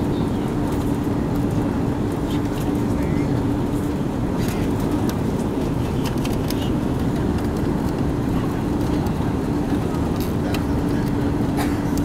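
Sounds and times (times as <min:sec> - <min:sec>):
jet engines droning: 0:00.0 - 0:12.0
steady cabin hum: 0:00.4 - 0:12.0.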